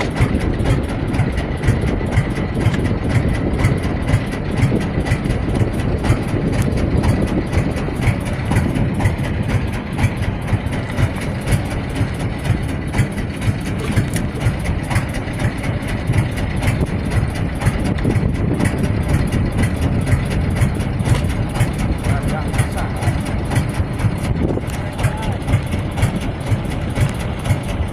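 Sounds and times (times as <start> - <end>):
boat engine rumbling: 0.0 - 27.9.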